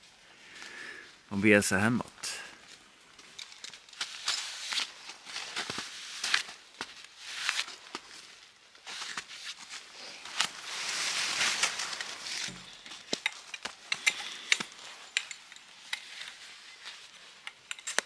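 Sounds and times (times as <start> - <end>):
camping gear clicks and knocks: 2.6 - 10.6, 11.4 - 18.0
rustling: 2.6 - 18.0.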